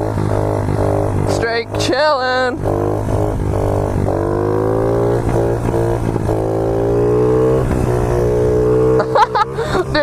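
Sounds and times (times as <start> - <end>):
small motorbike engine revving: 0.0 - 10.0.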